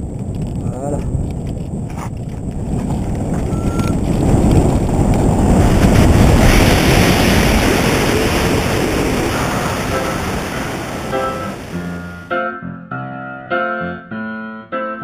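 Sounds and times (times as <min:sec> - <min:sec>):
wind rushing over microphone: 0:00.0 - 0:12.3.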